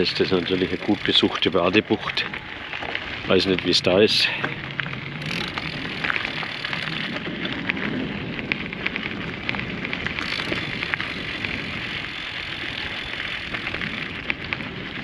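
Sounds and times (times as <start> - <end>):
tyres crunching over gravel: 0.0 - 15.0.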